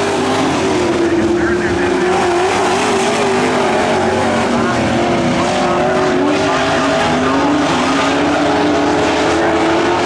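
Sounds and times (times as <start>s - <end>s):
racing truck engines: 0.0s - 10.0s.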